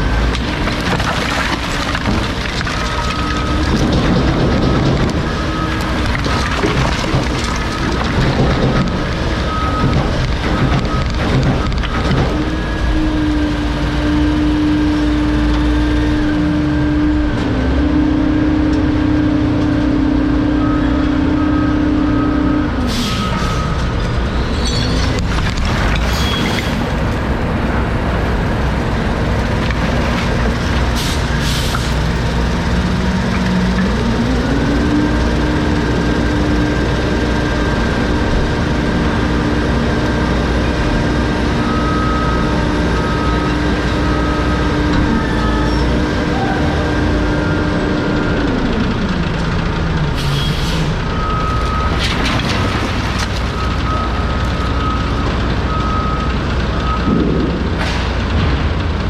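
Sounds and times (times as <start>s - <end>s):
garbage truck engine rumbling: 0.0s - 59.0s.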